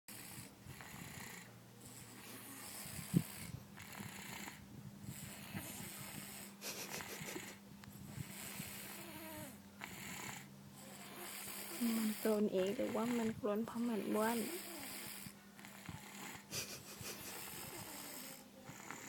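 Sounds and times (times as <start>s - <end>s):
person snoring: 0.1s - 16.5s, 17.2s - 19.0s
loud snort: 0.1s - 19.0s.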